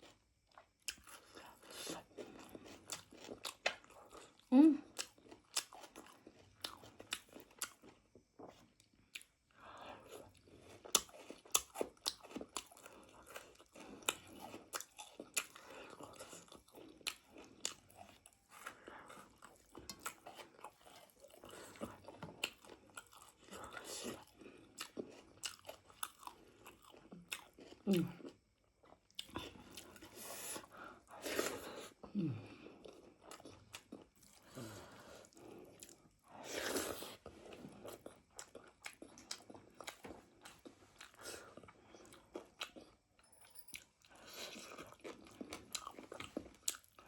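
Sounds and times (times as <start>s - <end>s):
person chewing with wet smacking: 0.0s - 9.4s, 10.0s - 43.0s, 43.7s - 47.0s.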